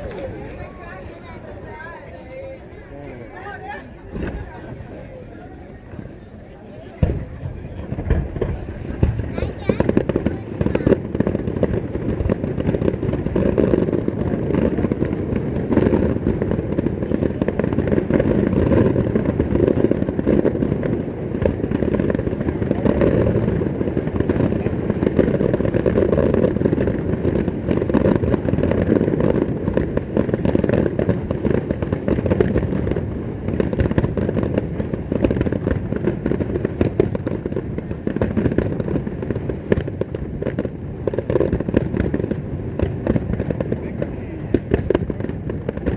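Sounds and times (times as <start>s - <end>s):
deep firework booms: 3.3s - 6.2s, 6.8s - 45.9s
sharp firework cracks: 7.0s - 45.9s.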